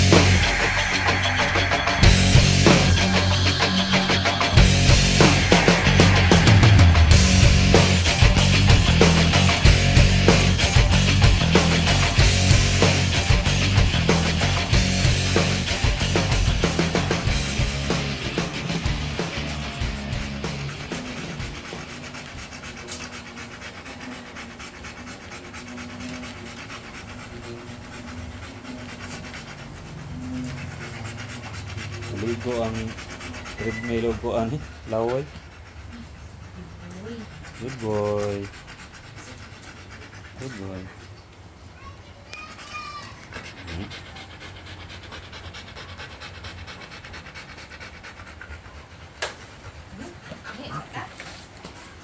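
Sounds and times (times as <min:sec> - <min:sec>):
dog panting: 0:00.0 - 0:52.0.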